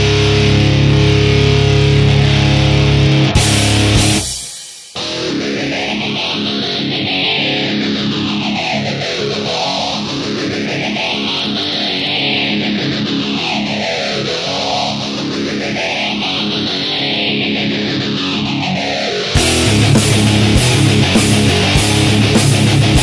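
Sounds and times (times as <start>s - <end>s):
guitar-driven rock music: 0.0s - 23.0s.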